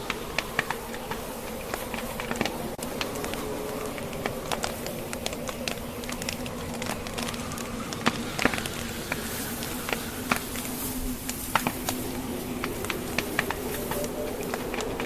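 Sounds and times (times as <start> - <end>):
burning logs popping: 0.0 - 15.0
low drone: 0.0 - 15.0
wood fire crackling: 0.0 - 15.0.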